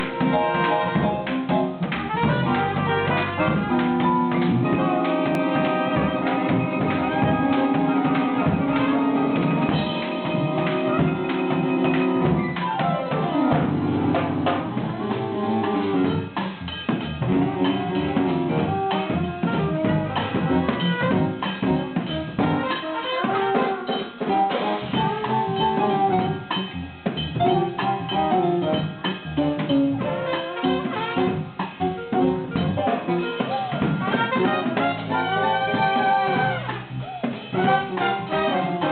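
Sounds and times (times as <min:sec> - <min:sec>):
drum kit: 0:00.0 - 0:38.9
live band jamming: 0:00.0 - 0:38.9.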